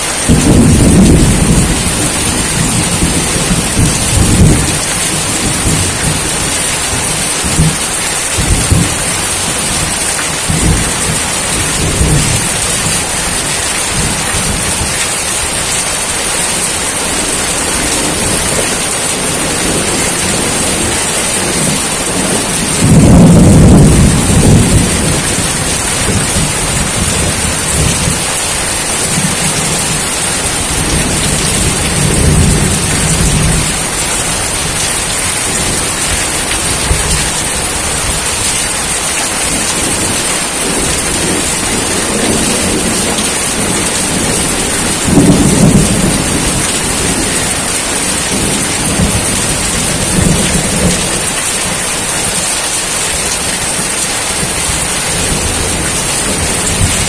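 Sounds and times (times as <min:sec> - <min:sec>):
heavy rain pouring: 0:00.0 - 0:57.0
thunder rumbling: 0:00.0 - 0:57.0.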